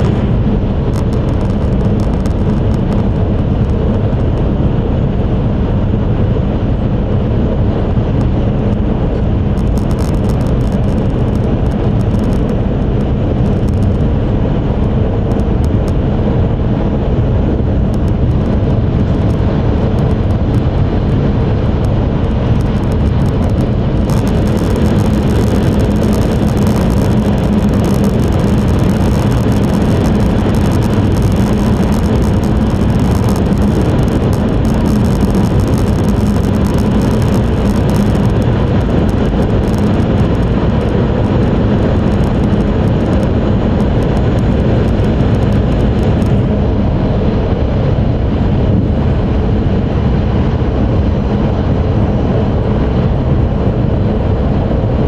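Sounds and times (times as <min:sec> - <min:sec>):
train cabin rumble and rushing: 0:00.0 - 0:55.0.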